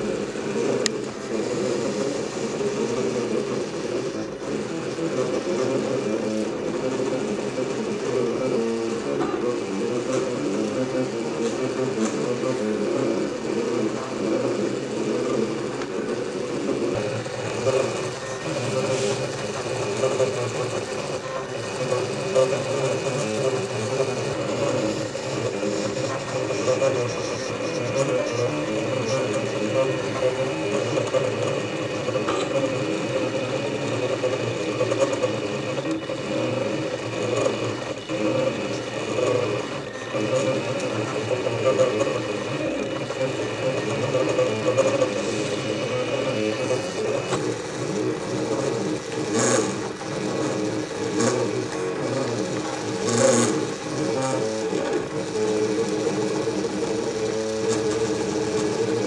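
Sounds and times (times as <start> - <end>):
stepper motors buzzing: 0.0 - 59.0.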